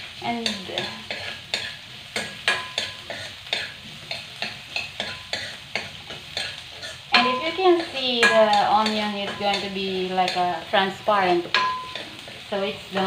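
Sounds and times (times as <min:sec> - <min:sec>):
light sizzle of frying: 0:00.0 - 0:13.0
metal spoon scraping a frying pan: 0:00.3 - 0:13.0.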